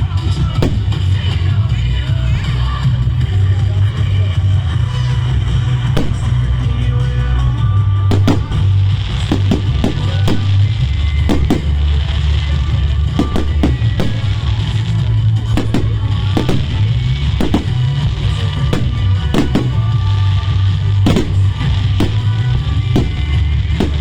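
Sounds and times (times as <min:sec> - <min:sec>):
fireworks bangs and cracks: 0:00.0 - 0:24.0
loud music with heavy bass: 0:00.0 - 0:24.0.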